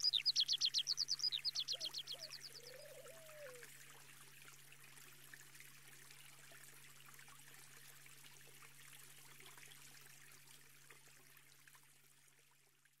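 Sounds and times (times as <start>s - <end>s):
faint trickling stream: 0.0s - 13.0s.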